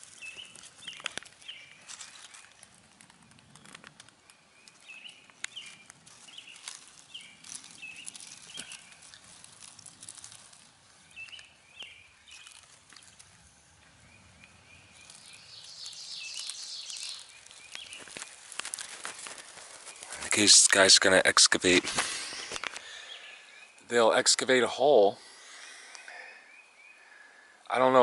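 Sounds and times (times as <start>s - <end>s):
hissing rustle: 0.0s - 23.9s
bird chirping: 0.0s - 28.0s.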